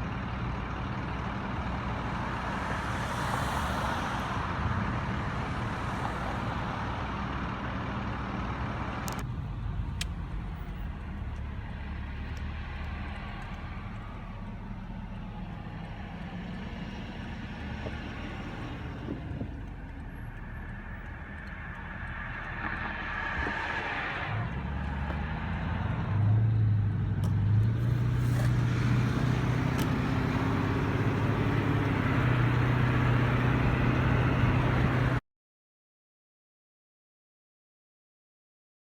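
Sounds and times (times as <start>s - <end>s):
road traffic: 0.0s - 35.2s
vehicle engine running: 0.0s - 35.2s.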